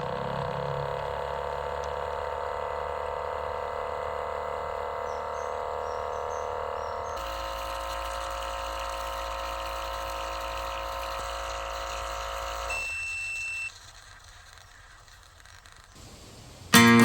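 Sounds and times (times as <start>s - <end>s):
machine hum: 0.0s - 13.7s.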